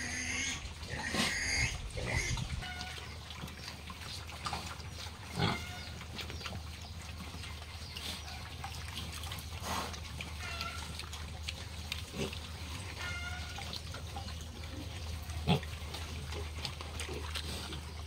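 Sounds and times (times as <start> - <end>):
young pigs grunting and squealing: 0.0 - 18.0.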